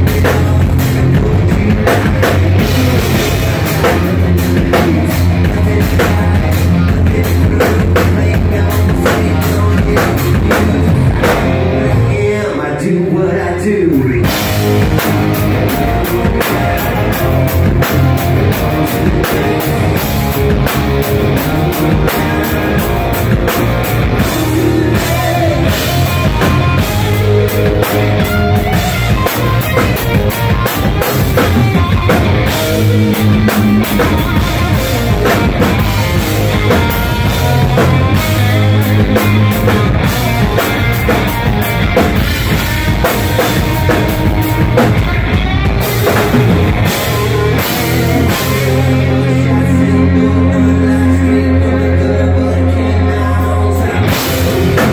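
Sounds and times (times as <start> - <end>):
drum kit: 0.0 - 12.6, 13.9 - 54.9
electric guitars: 0.0 - 54.9.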